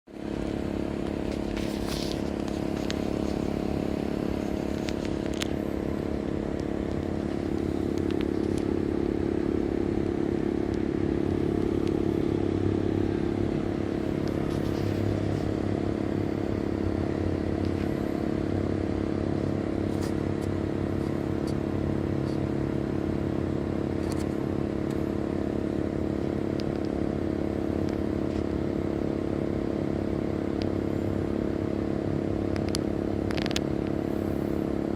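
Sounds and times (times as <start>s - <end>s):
air conditioner compressor hum: 0.1s - 34.9s.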